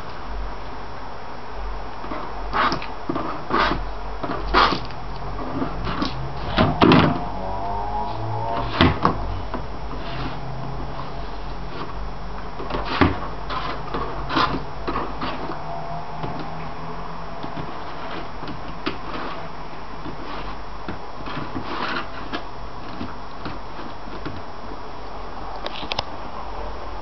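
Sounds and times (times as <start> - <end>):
plastic basket scraping on wood floor: 2.0 - 12.0, 12.6 - 24.5.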